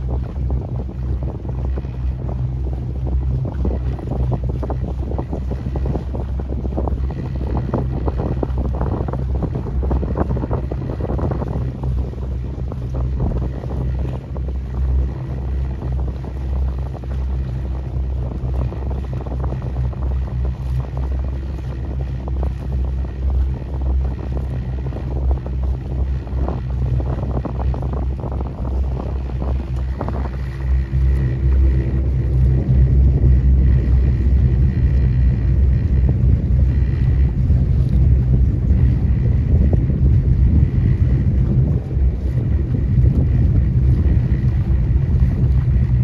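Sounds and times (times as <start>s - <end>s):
motorboat engine humming: 0.0s - 46.0s
wind buffeting microphone: 0.0s - 46.0s.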